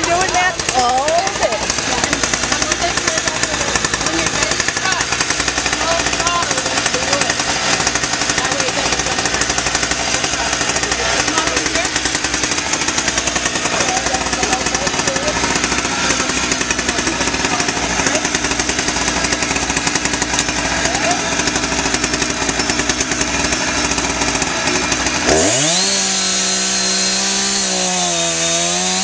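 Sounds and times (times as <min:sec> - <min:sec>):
chainsaw idling and revving: 0:00.0 - 0:29.0.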